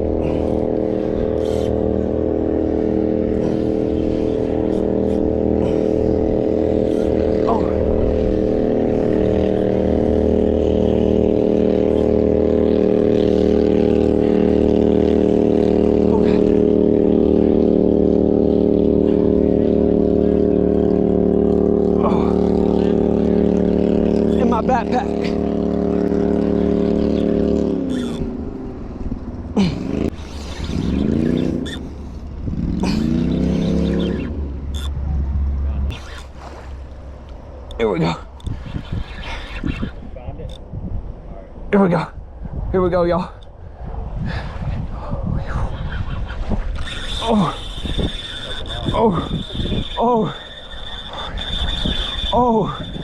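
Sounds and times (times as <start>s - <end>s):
outboard motor droning: 0.0s - 53.0s.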